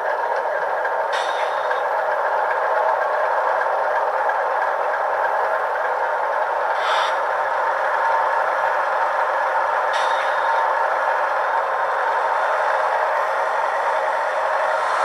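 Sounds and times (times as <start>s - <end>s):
model locomotive engine sound: 0.0s - 15.0s.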